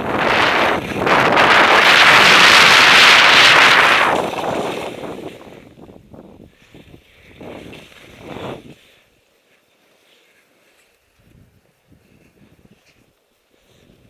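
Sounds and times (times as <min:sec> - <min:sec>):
skis scraping over snow: 0:00.0 - 0:05.9, 0:06.5 - 0:14.0.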